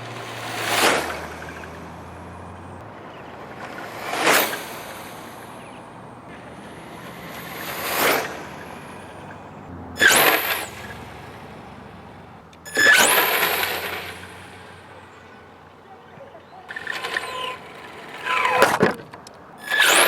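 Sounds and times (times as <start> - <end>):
rc car motor whine passing: 0.0 - 20.0.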